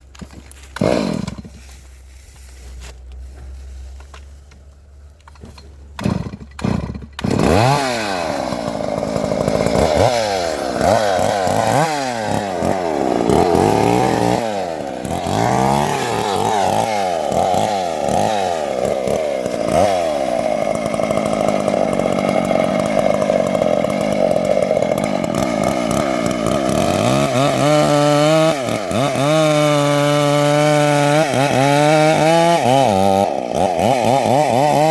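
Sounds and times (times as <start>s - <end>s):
chainsaw engine revving: 0.5s - 1.8s, 5.2s - 34.9s.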